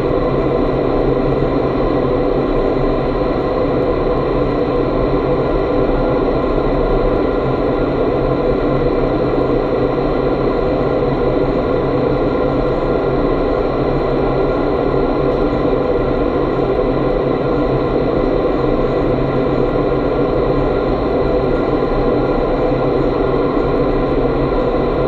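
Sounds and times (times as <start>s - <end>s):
steady fan tones: 0.0s - 25.0s.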